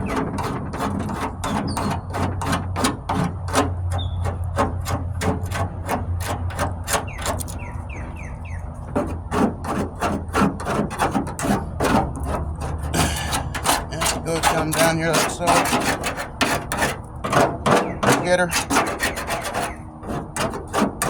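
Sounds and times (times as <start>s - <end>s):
rasp scraping body filler: 0.0s - 21.0s.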